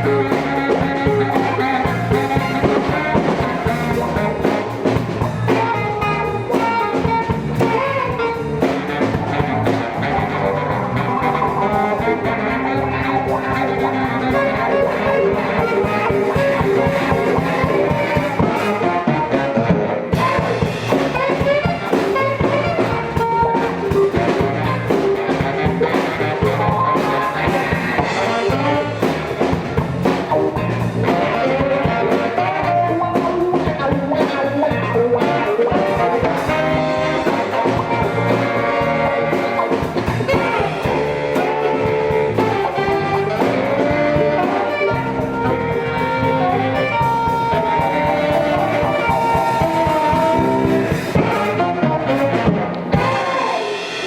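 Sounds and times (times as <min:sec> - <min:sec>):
band playing jazz-funk: 0:00.0 - 0:54.0.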